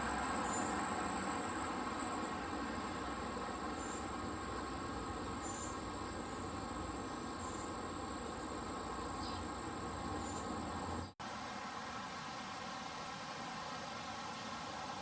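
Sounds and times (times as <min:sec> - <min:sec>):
high insect chirps: 0:00.0 - 0:15.0.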